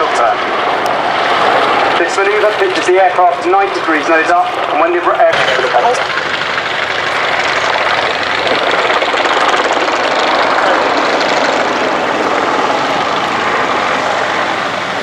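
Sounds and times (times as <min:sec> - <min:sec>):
helicopter rotor and turbine noise: 0:00.0 - 0:15.0.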